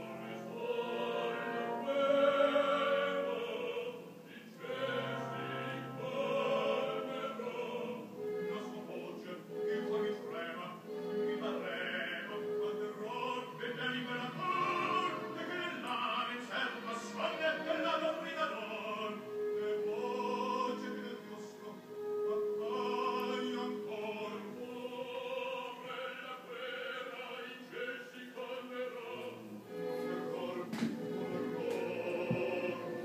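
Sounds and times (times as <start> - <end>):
opera singing: 0.0 - 33.0.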